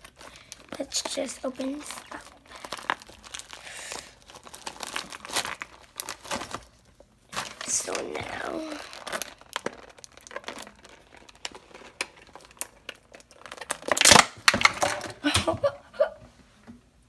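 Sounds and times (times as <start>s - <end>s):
plastic packaging crinkling: 0.0s - 15.3s.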